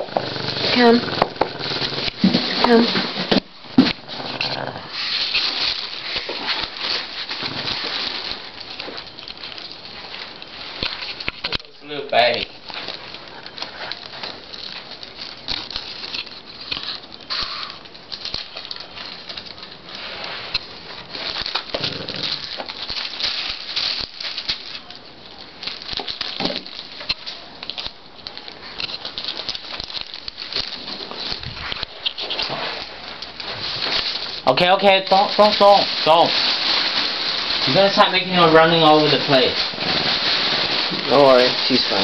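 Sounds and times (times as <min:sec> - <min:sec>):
cardboard rustling: 0:00.2 - 0:42.0
plastic sheeting crinkling: 0:00.3 - 0:42.0
puppy scuffling: 0:00.5 - 0:42.0.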